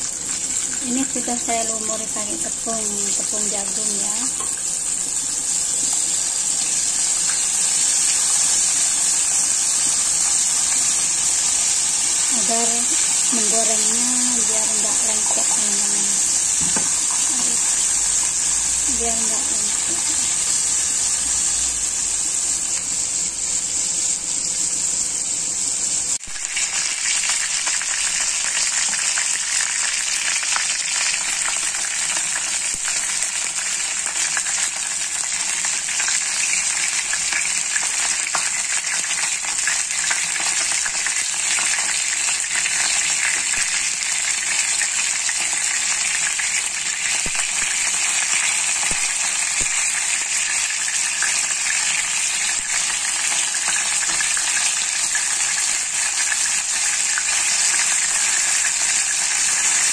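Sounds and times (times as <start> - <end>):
chicken wings sizzling in hot oil: 0.0 - 59.9.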